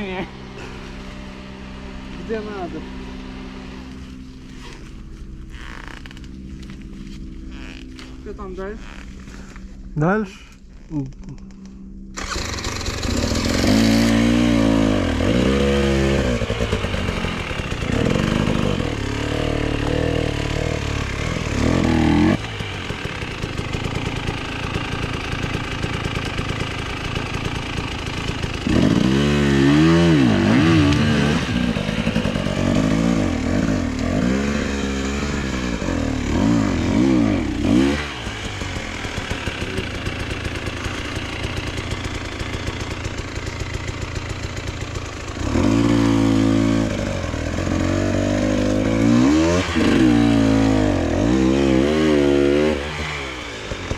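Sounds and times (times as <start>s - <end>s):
motorcycle engine revving: 0.0s - 9.6s, 10.9s - 53.9s.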